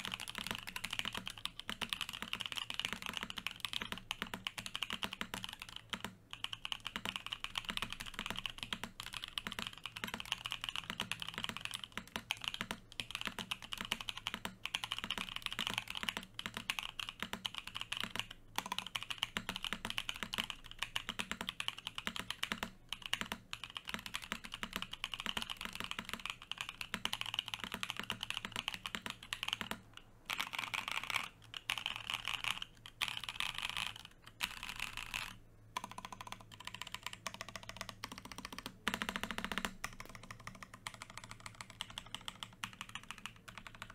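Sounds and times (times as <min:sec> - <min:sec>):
mechanical keyboard typing: 0:00.0 - 0:43.9.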